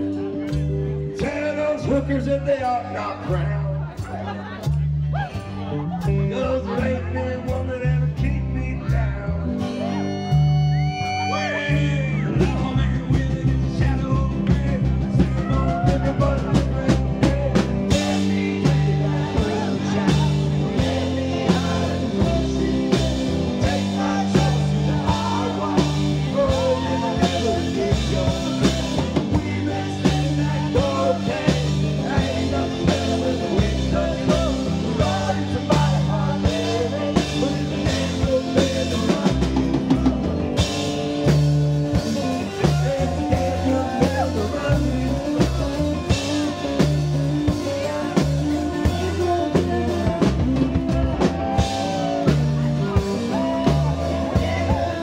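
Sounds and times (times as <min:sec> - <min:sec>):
acoustic and electric guitars: 0:00.0 - 0:55.0
bass notes: 0:00.0 - 0:55.0
drum kit beat: 0:10.2 - 0:55.0.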